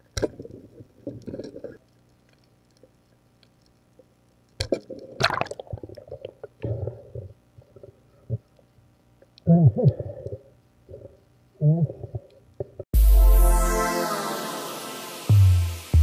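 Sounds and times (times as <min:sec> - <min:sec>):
muffled underwater water sounds: 0:00.0 - 0:12.8.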